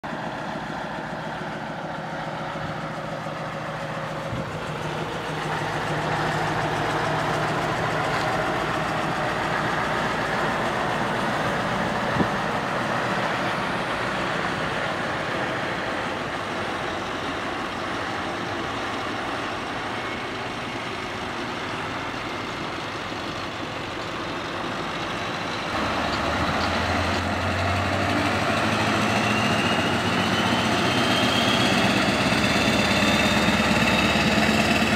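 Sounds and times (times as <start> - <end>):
truck diesel engines driving past: 0.0 - 34.9.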